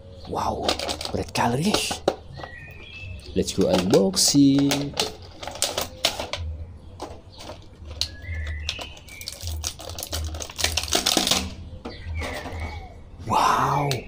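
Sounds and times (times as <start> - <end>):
plastic packaging crackling: 0.5 - 12.8.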